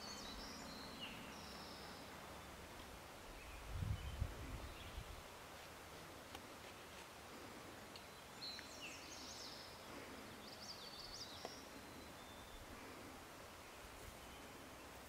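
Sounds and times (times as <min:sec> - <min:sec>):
songbird chirping: 0:00.0 - 0:05.2, 0:06.2 - 0:15.0
faint outdoor hiss: 0:00.0 - 0:15.0.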